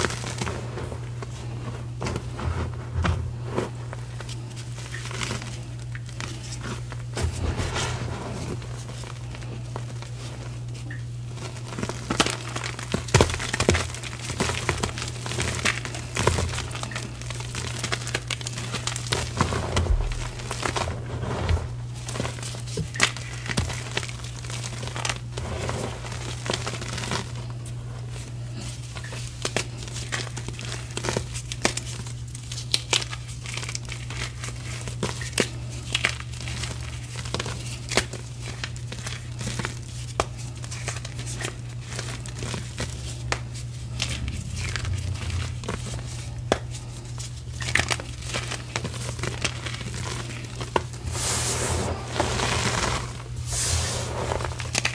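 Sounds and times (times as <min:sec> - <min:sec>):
chalk crumbling and snapping: 0:08.5 - 0:54.9.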